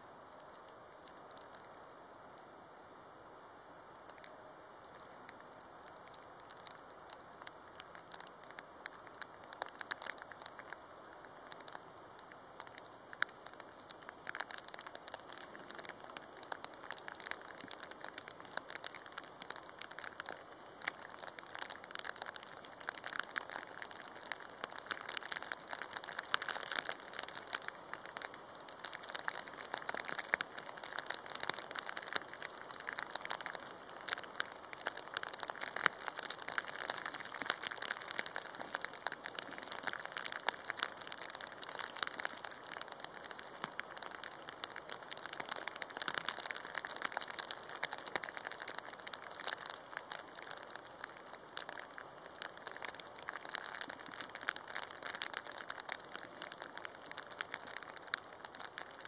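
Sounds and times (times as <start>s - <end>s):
heavy rain falling: 4.8s - 59.0s.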